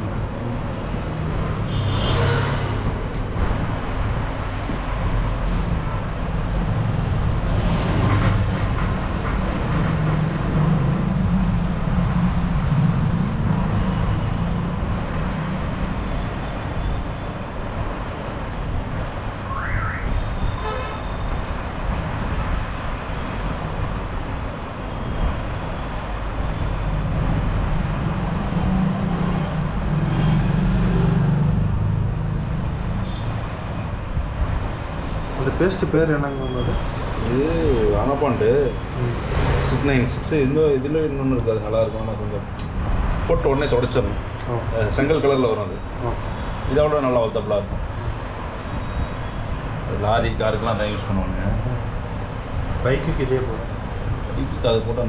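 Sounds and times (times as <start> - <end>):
heavy vehicles passing: 0.0 - 55.0
road traffic rumble: 0.0 - 55.0.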